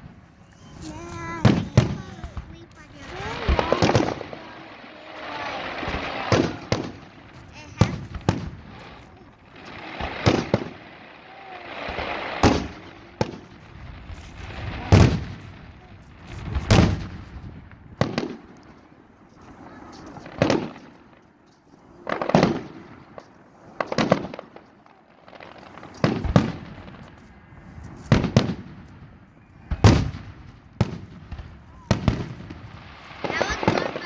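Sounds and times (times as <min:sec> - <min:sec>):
fireworks shells bursting: 0:00.0 - 0:34.0.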